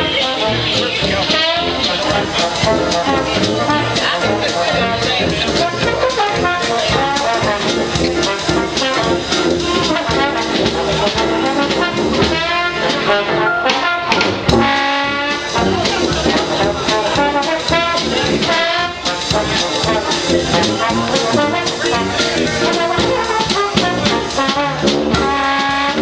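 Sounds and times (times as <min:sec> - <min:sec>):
clarinet: 0:00.0 - 0:26.0
dixieland jazz band playing: 0:00.0 - 0:26.0
trombone: 0:00.0 - 0:26.0
trumpet: 0:00.0 - 0:26.0.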